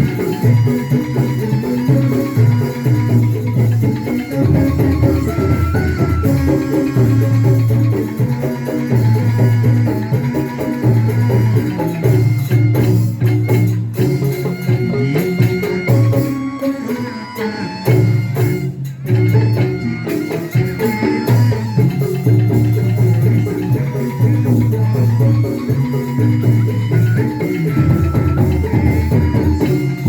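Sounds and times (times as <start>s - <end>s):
drums: 0.0s - 30.0s
held melody notes: 0.0s - 30.0s.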